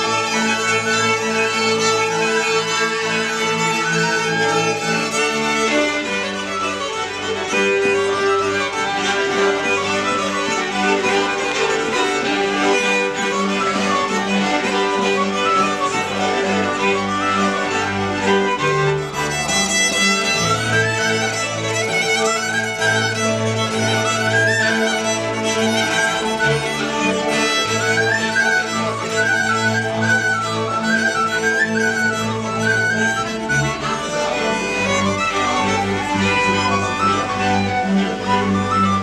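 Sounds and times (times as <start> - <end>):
bowed double bass: 0.0 - 39.0
fiddles playing folk melody: 0.0 - 39.0.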